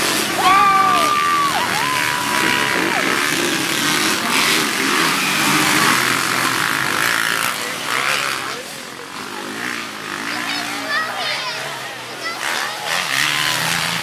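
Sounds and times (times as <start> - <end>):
dirt bikes revving: 0.0 - 14.0.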